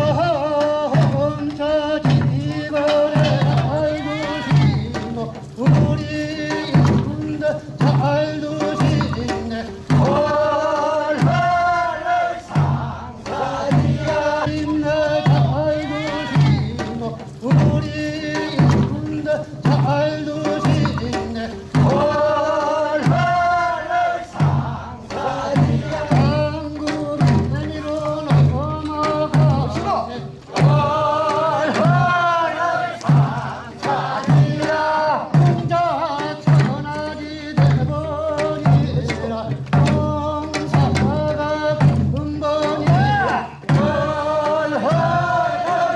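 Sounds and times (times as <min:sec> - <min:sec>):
deep drum beating: 0:00.0 - 0:45.9
men singing work song: 0:00.0 - 0:45.9.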